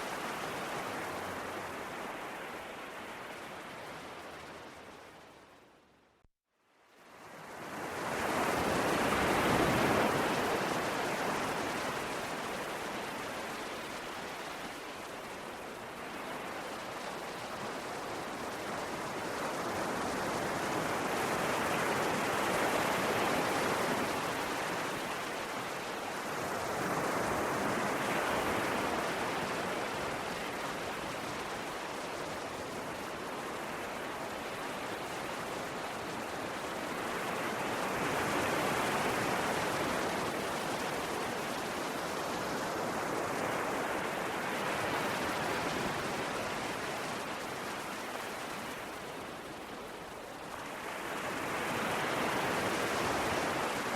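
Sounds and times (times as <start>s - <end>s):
ocean waves: 0.0s - 5.8s, 7.0s - 53.9s.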